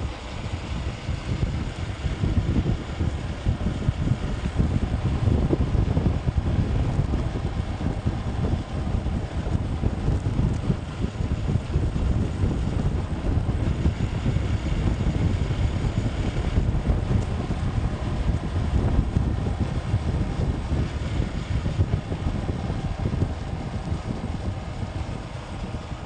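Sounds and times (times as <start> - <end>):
motorbike vehicle noise: 0.0 - 26.0
wind buffeting microphone: 0.0 - 26.0.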